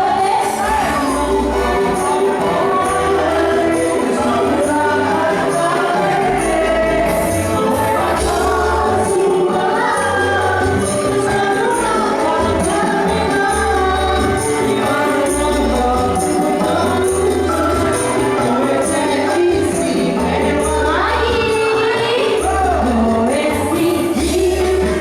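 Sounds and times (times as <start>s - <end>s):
bass line: 0.0s - 23.5s
high percussion beat: 0.0s - 25.0s
several voices singing: 0.0s - 25.0s.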